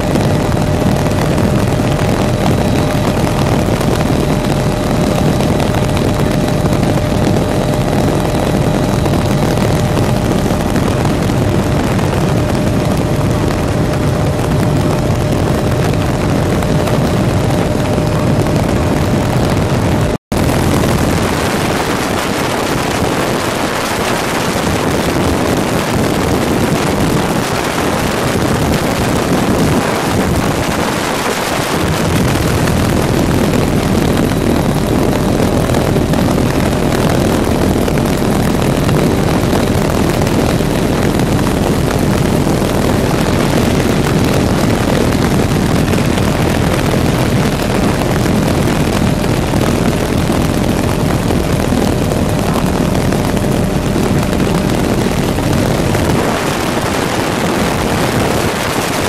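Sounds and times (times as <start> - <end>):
helicopter rotor and engine: 0.0 - 59.0
wind rushing: 0.0 - 59.0.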